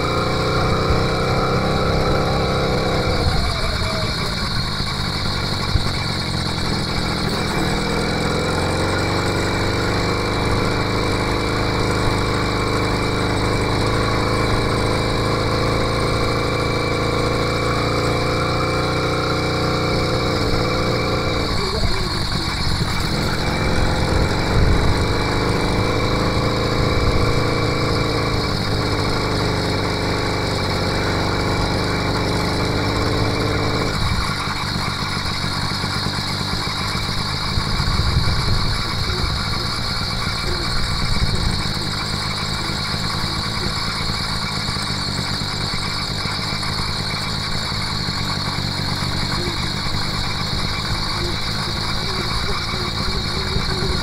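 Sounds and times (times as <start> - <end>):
two-stroke engine running: 0.0 - 54.0.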